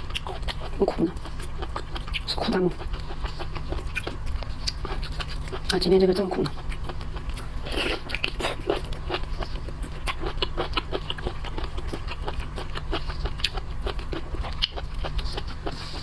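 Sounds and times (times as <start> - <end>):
person chewing seafood: 0.0 - 16.0.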